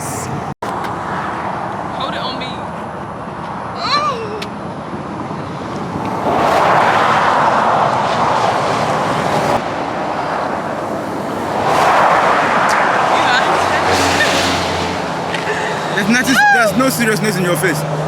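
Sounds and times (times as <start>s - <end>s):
highway traffic rushing past: 0.0s - 18.0s.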